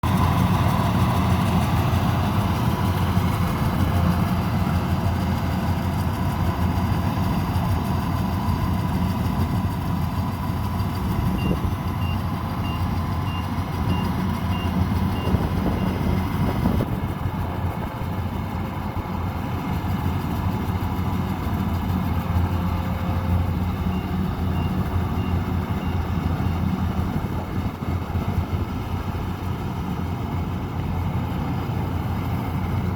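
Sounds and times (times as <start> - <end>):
harvester engine running: 0.0 - 32.9.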